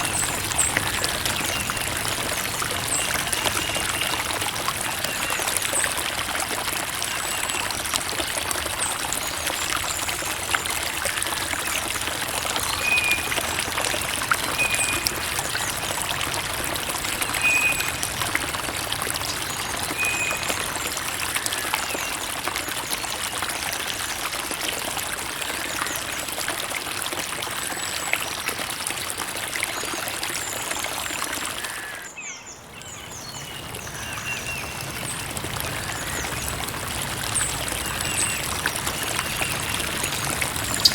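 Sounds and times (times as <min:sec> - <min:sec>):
creek water babbling over stones: 0:00.0 - 0:40.9.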